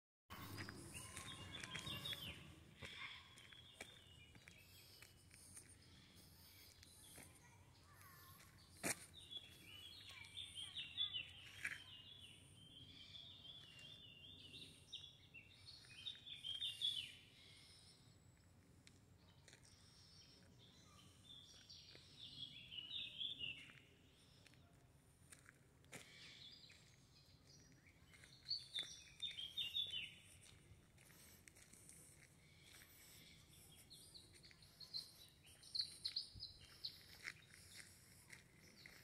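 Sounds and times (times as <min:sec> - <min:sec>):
faint outdoor background noise: 0:00.3 - 0:39.0
songbird chirping: 0:00.3 - 0:39.0.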